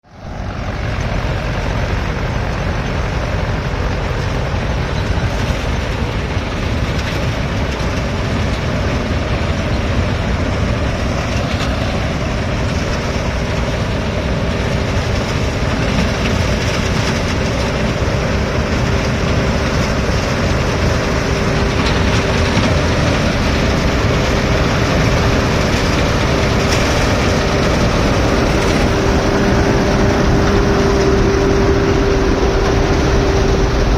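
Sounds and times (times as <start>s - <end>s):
tractor engine under load: 0.0s - 33.9s.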